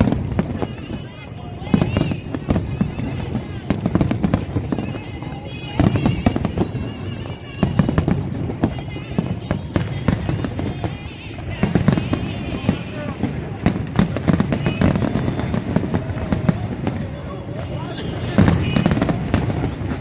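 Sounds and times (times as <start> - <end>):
firework bangs: 0.0 - 20.0
fireworks crackling: 0.0 - 20.0
music playing: 0.0 - 20.0.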